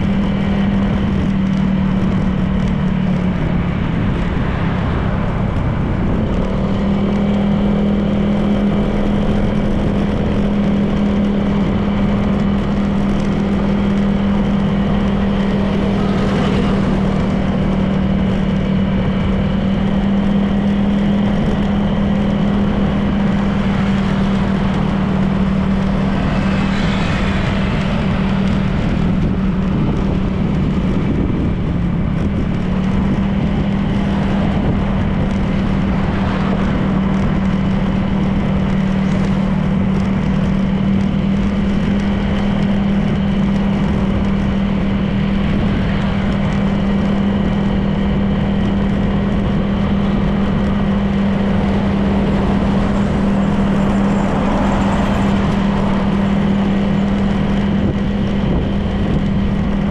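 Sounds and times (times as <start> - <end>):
scooter engine running: 0.0 - 59.9
wind and road noise: 0.0 - 59.9.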